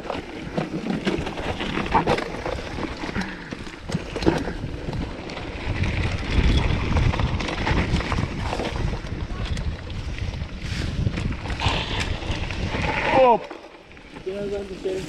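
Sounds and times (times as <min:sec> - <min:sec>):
wind buffeting microphone: 0:01.3 - 0:15.0.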